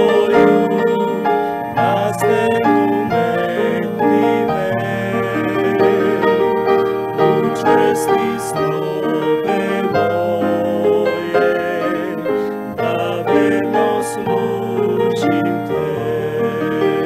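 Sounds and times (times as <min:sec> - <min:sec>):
slow hymn on keyboard: 0:00.0 - 0:17.0.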